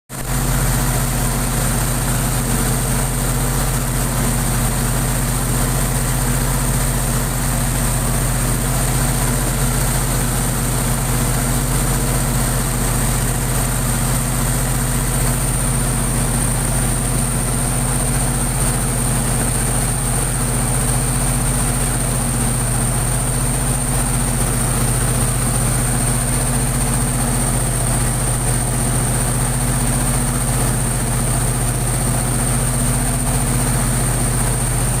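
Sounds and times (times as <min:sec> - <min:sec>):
diesel generator engine hum: 0:00.2 - 0:35.0.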